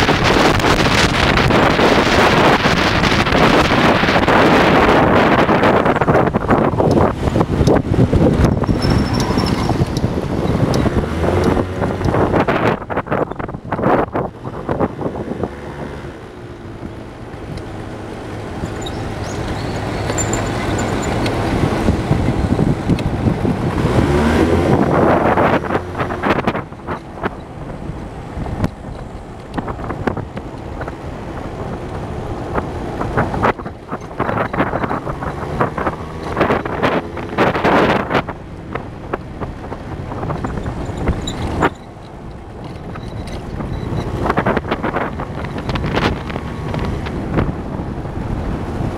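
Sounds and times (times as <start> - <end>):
vehicle engine accelerating: 0.0 - 48.9
wind buffeting microphone: 0.0 - 48.9.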